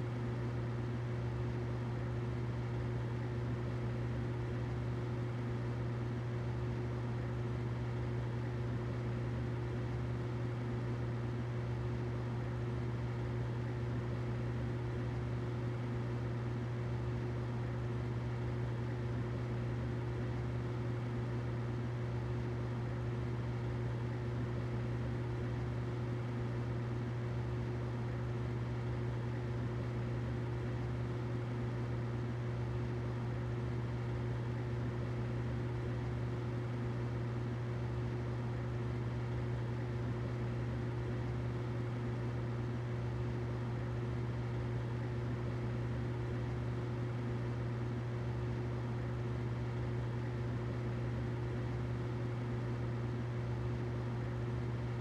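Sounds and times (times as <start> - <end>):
humidifier humming and hissing: 0.0 - 55.0.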